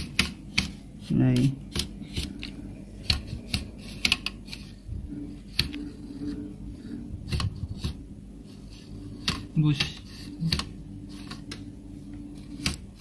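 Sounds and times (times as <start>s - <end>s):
low rubbing noise: 2.0s - 13.0s.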